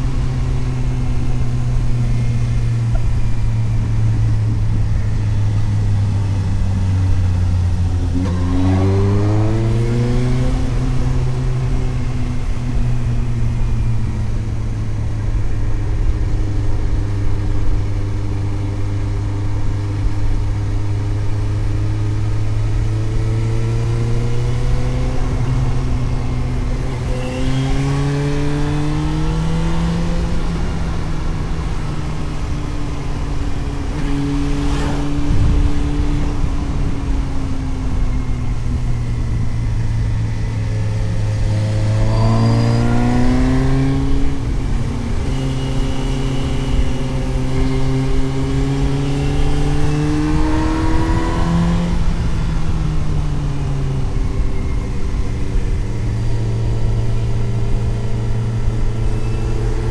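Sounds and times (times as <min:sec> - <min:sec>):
motorcycle engine: 0:00.0 - 0:59.9
wind and road noise: 0:00.0 - 0:59.9.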